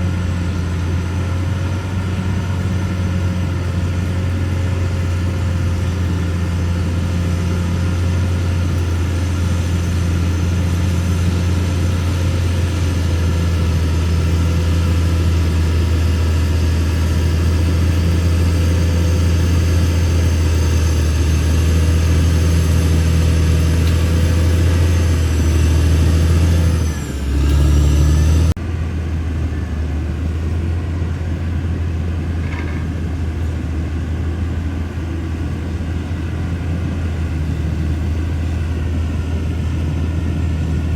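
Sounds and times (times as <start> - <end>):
bulldozer diesel engine droning: 0.0 - 40.9.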